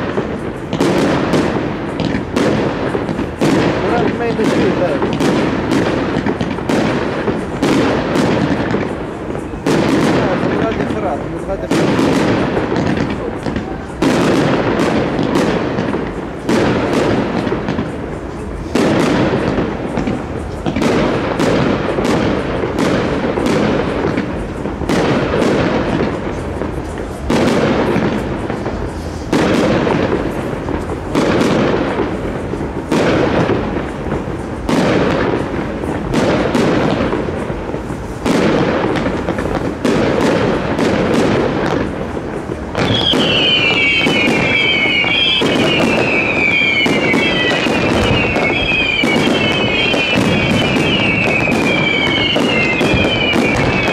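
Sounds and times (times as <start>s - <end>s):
firework shells bursting: 0.0s - 53.9s
whistling fireworks: 0.0s - 53.9s.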